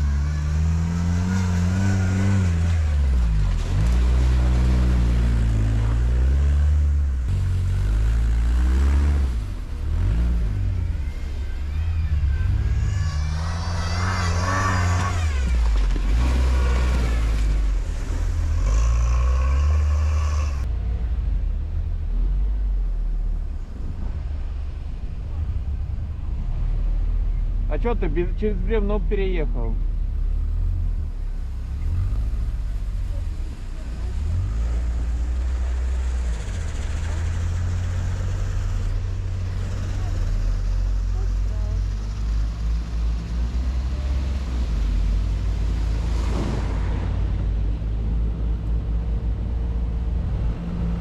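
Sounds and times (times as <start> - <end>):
quad bike engine revving: 0.0 - 20.7, 26.4 - 47.0.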